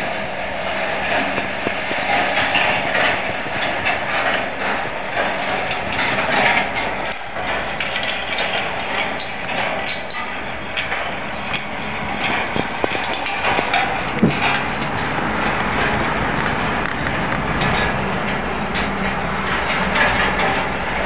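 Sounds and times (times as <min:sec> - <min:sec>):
balls rolling and rattling on wire: 0:01.0 - 0:21.0
small clicks and ticks: 0:01.4 - 0:21.0.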